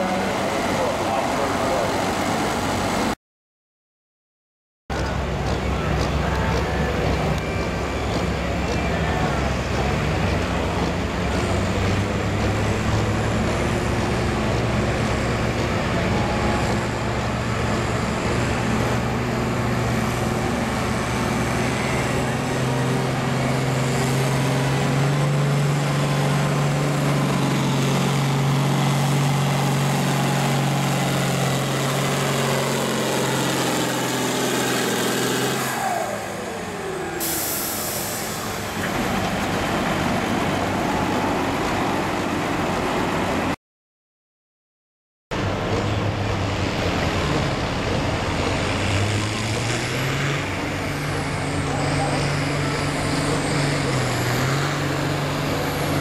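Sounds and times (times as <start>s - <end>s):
diesel tractor engine at full throttle: 0.0s - 3.2s, 4.9s - 43.6s, 45.3s - 56.0s.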